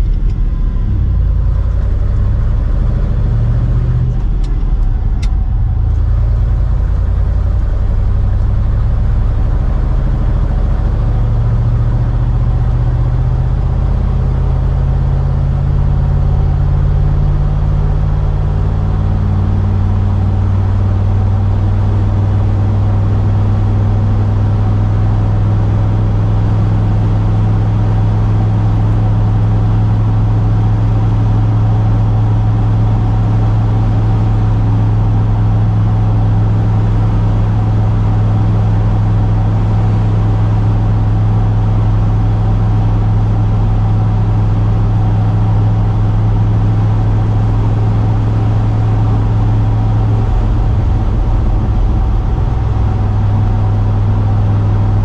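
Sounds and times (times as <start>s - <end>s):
road noise: 0.0s - 55.0s
truck engine and exhaust: 0.0s - 55.0s.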